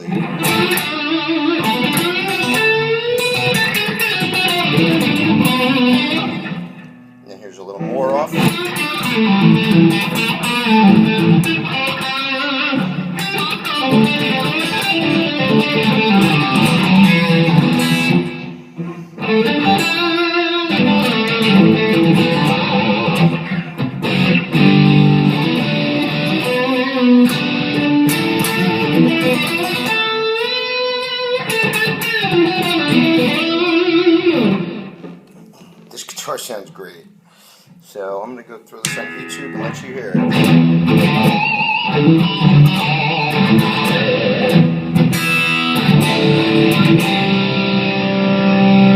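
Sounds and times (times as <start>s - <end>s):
electric guitar through amp: 0.0s - 35.4s, 38.8s - 48.9s.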